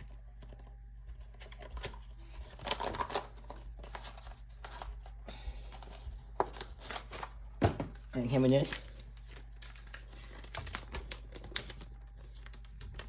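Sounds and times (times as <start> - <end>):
card packaging rustling: 0.0 - 13.0.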